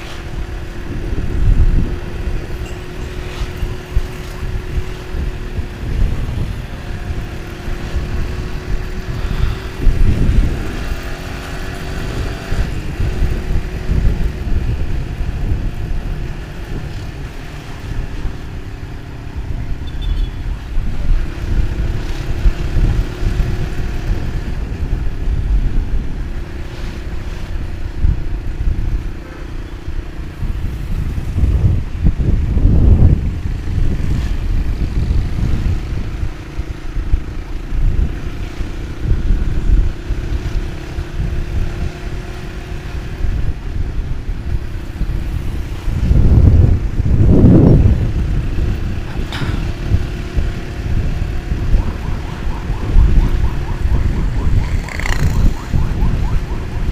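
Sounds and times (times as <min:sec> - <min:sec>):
motorcycle engine running: 0:00.0 - 0:56.9
wind buffeting microphone: 0:00.0 - 0:56.9.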